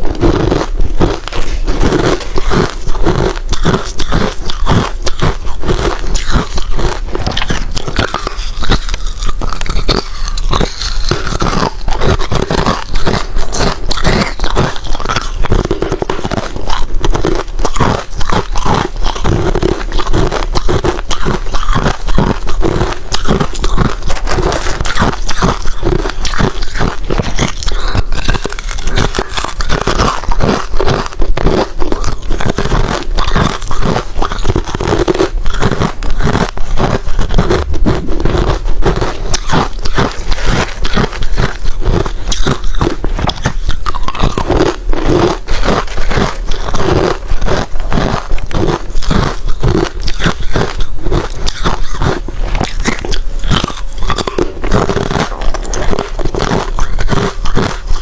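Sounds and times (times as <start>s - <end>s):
ice crunching as chewed: 0.0s - 58.0s.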